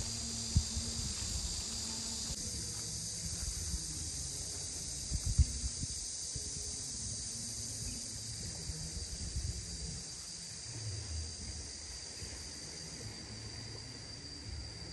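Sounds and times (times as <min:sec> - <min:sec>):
insects chirring: 0:00.0 - 0:14.9
low rumble of wind: 0:00.0 - 0:14.9.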